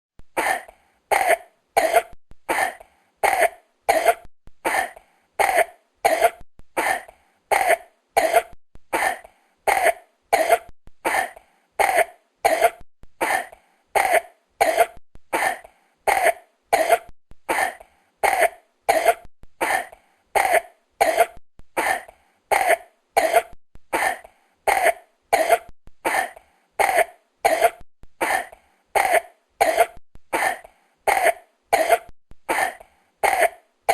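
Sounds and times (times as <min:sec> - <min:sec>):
person coughing: 0:00.3 - 0:33.9.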